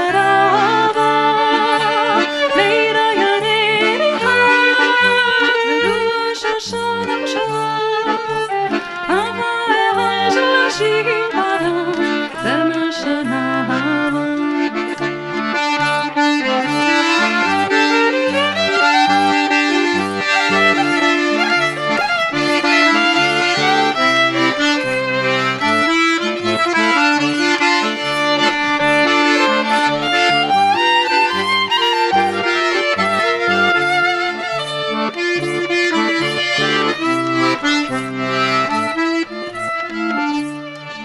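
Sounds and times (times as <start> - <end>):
accordion chords: 0.0 - 41.0
violin melody: 0.0 - 41.0.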